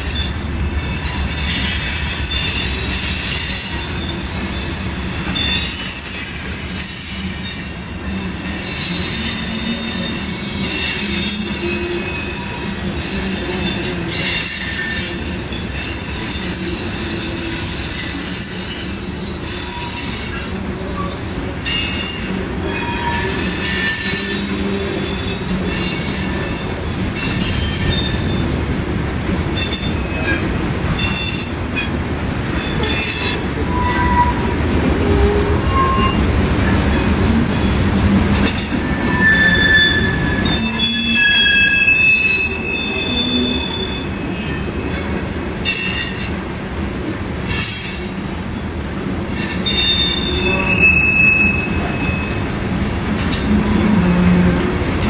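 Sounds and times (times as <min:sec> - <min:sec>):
high-pitched wheel squeals: 0:00.0 - 0:28.7, 0:29.6 - 0:32.0, 0:32.6 - 0:37.6, 0:38.4 - 0:46.5, 0:49.4 - 0:52.5
train wheels rumbling on rails: 0:00.0 - 0:55.0.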